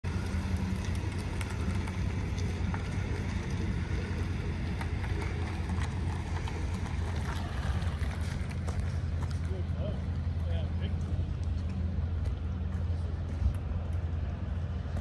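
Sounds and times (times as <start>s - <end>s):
truck rumbling on pavement: 0.0s - 15.0s.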